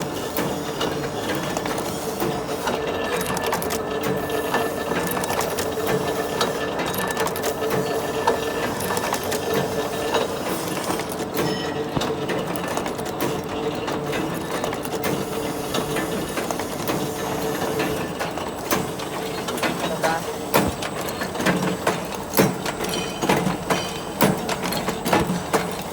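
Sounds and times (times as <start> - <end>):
machine clattering clicks: 0.0 - 25.9.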